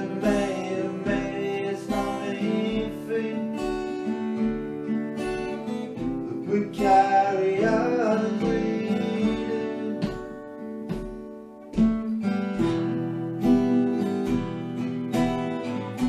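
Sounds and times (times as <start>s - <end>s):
acoustic guitar lead solo: 0.0s - 16.0s
acoustic guitar strumming chords: 0.0s - 16.0s.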